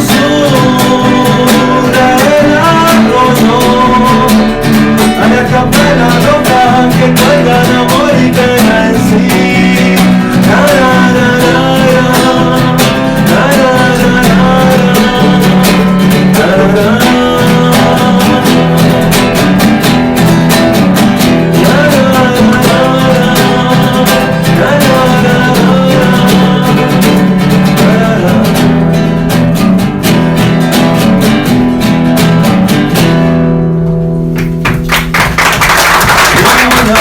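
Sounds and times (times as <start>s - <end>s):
rapidly strummed acoustic guitar: 0.0s - 37.0s.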